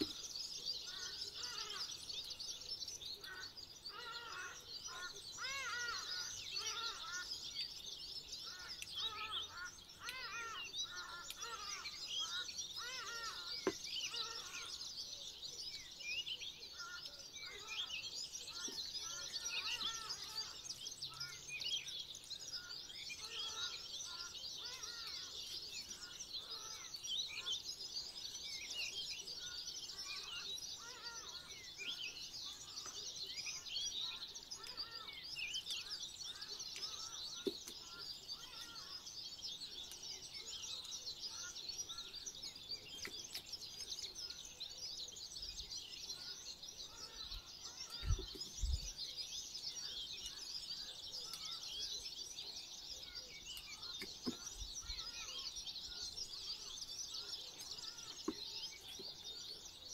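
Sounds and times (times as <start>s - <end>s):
small birds chirping chorus: 0.0s - 59.9s.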